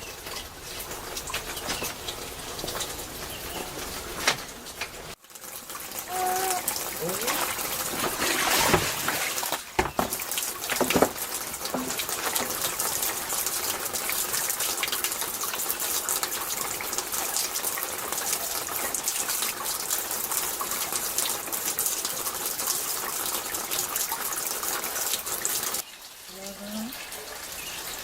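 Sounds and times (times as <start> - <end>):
running water rushing: 0.0 - 28.0.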